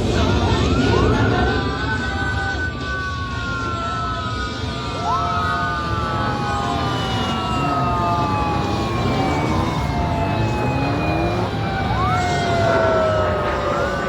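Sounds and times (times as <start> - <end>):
motorcycle engines rumbling: 0.0 - 14.0
police motorcycle sirens wailing: 0.0 - 14.0.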